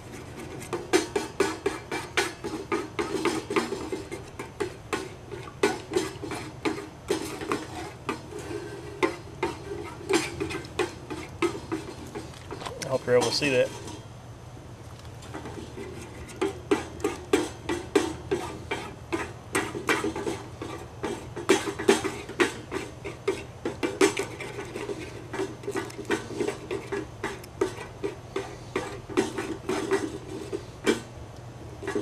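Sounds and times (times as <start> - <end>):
spork scraping in metal pot: 0.0 - 14.1, 15.2 - 31.1, 31.8 - 32.0.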